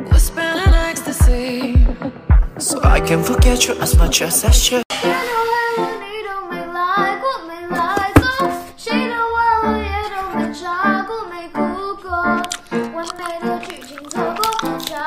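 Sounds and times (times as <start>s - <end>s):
pop song with high voice: 0.0s - 15.0s.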